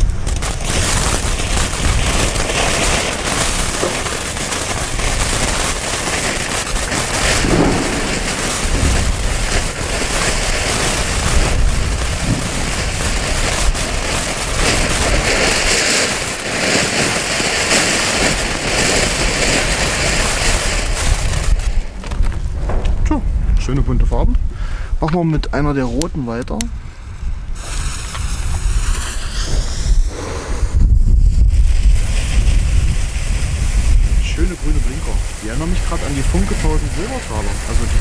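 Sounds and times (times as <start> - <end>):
firework hissing spray of sparks: 0.0 - 22.0, 27.4 - 38.0
firework pops: 0.0 - 23.7, 27.5 - 38.0.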